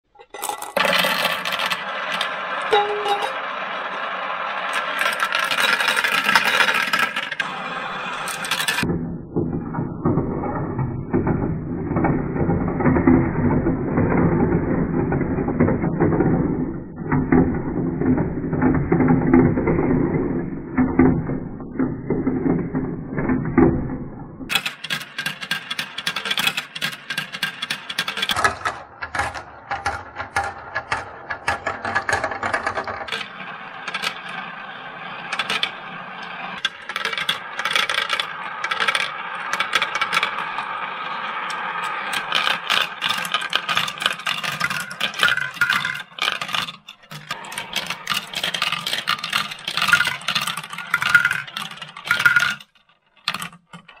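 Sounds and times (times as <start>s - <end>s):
marbles rattling down plastic track: 0.2s - 8.9s, 10.1s - 23.8s, 24.5s - 54.0s.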